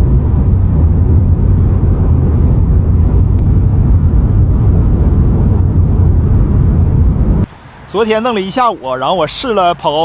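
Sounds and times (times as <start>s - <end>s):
faint high wind whistle: 0.0s - 9.7s
road and wind rumble in car: 0.0s - 10.0s.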